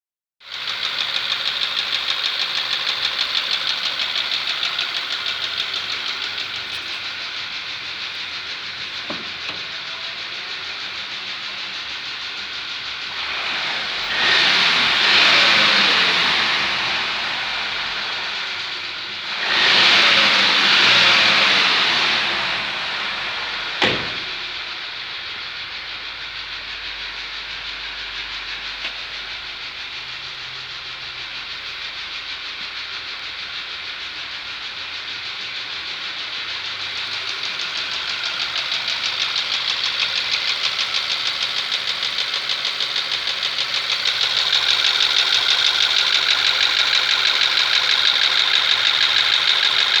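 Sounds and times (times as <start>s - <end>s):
petrol engine with ticking knock: 0.4s - 50.0s.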